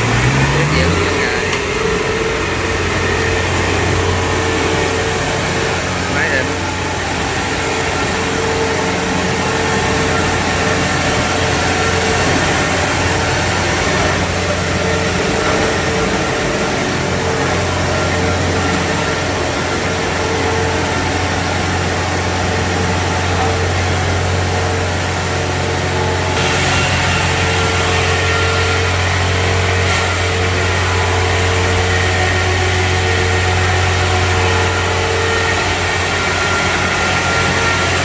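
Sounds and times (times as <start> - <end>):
diesel engine running steadily: 0.0 - 38.0.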